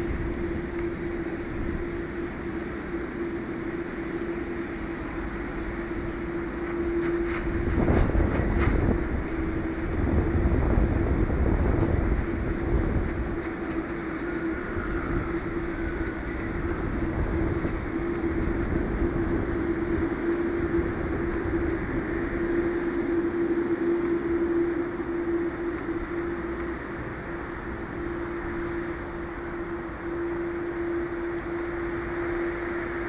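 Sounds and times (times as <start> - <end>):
jet engines running at taxi power: 0.0 - 33.0.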